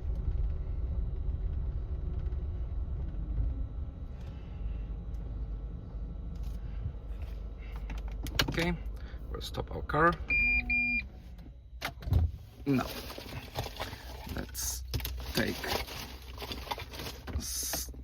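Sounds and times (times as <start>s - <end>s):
car engine rumble inside cabin: 0.0s - 18.0s.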